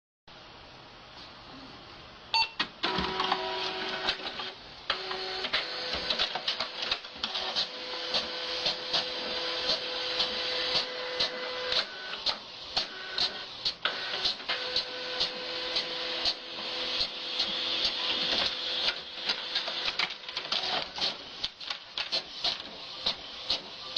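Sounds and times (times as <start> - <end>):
printer humming: 2.8 - 23.9.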